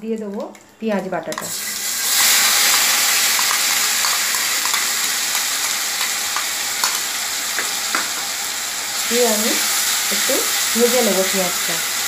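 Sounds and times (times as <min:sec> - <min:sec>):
paste sizzling in hot oil: 0:01.3 - 0:12.0.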